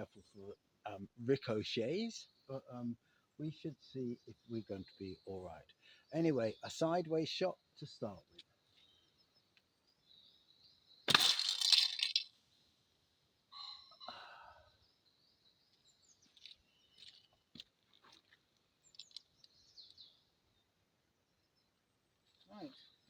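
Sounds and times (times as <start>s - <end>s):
birds chirping: 0.0s - 11.1s, 11.9s - 23.0s.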